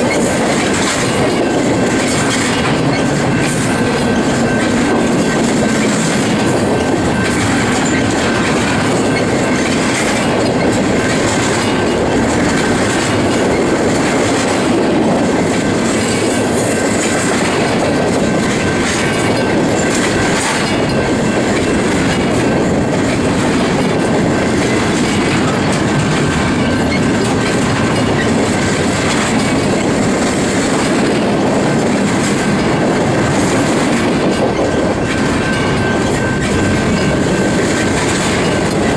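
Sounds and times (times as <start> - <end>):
train wheels rumbling on rails: 0.0 - 38.9
wheels clacking over rail joints: 0.0 - 38.9.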